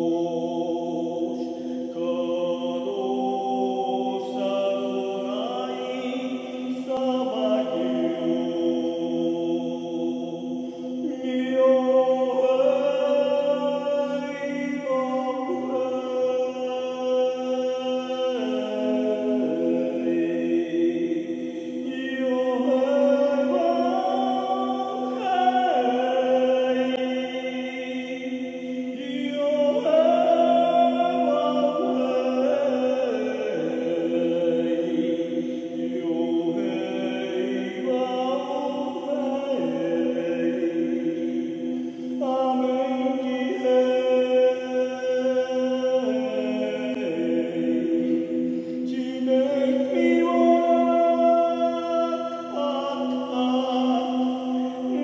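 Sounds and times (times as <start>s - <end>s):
choir-like chanting voices: 0.0s - 55.0s.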